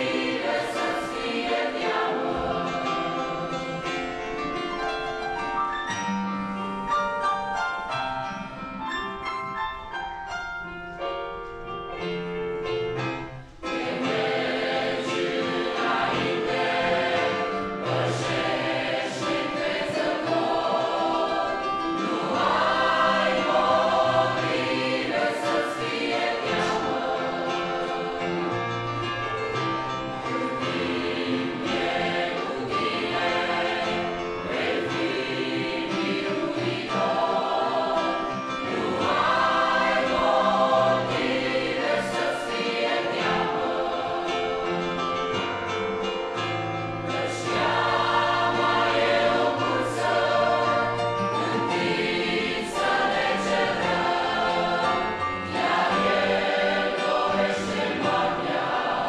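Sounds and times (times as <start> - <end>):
church choir singing a hymn: 0.0 - 5.9, 13.6 - 59.0.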